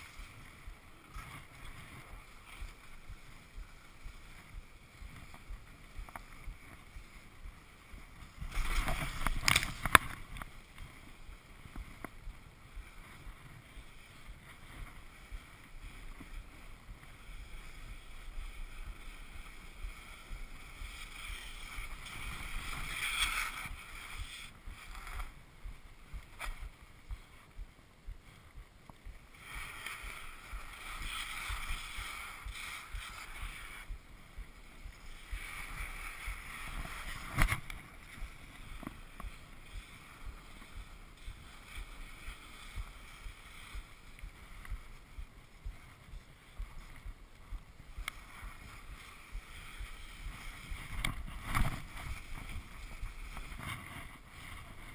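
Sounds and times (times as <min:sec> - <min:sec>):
ski clacks: 0:00.0 - 0:54.9
skis scraping over snow: 0:00.0 - 0:54.9.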